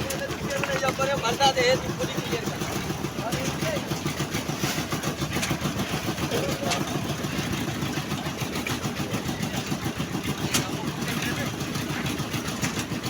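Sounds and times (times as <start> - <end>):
engine chugging: 0.0 - 13.0.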